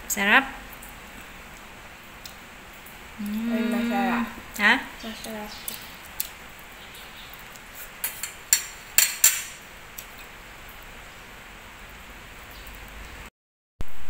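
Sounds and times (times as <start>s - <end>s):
low room hiss: 0.0s - 14.0s.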